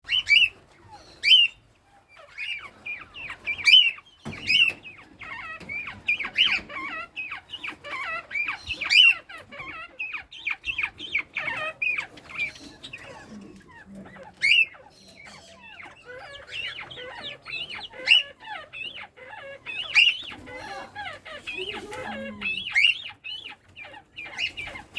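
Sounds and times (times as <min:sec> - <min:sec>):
quail chirping calls: 0:00.0 - 0:24.9.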